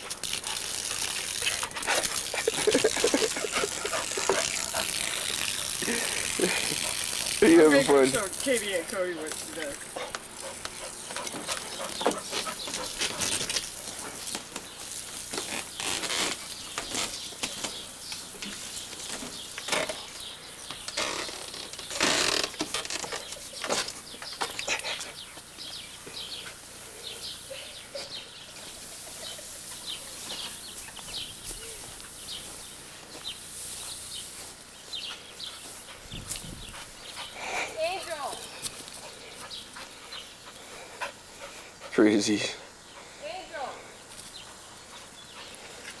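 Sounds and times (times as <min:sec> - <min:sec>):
dog splashing in hose spray: 0:00.0 - 0:46.0.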